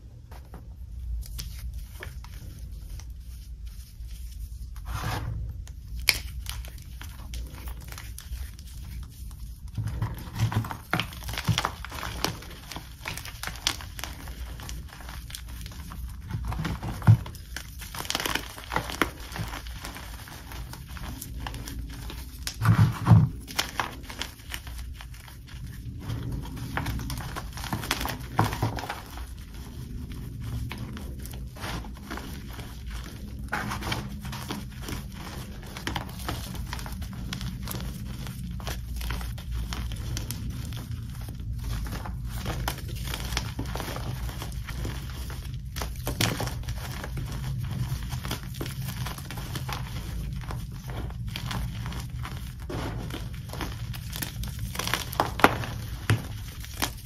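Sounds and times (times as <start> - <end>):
hands crushing dry chalk: 0.0 - 57.0.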